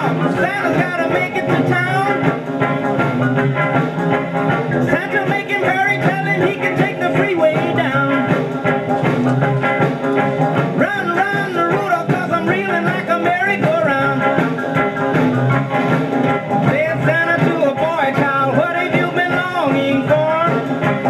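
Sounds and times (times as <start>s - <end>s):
song on record player: 0.0s - 21.0s.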